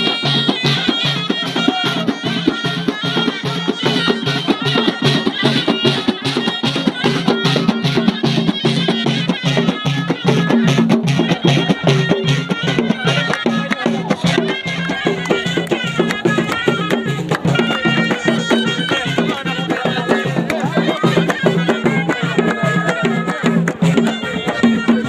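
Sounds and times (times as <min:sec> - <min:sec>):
shawm playing nasal melody: 0:00.0 - 0:25.0
steady drum beat: 0:00.0 - 0:25.0.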